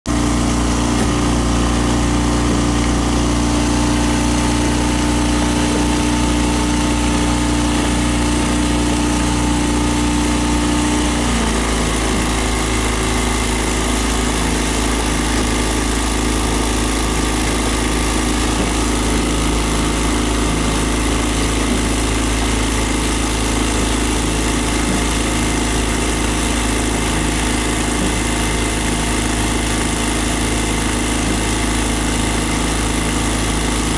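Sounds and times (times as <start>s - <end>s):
motorboat engine running: 0.1s - 33.9s.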